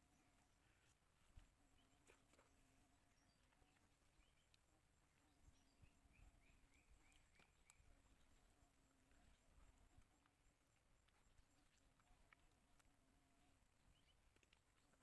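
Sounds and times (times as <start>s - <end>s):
faint high chirps: 0.0s - 15.0s
low steady hum: 0.0s - 15.0s.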